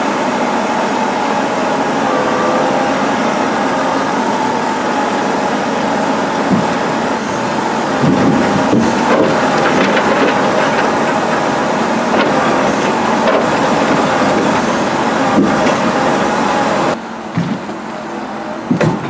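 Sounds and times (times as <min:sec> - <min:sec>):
truck engine and hydraulics: 0:00.0 - 0:19.0.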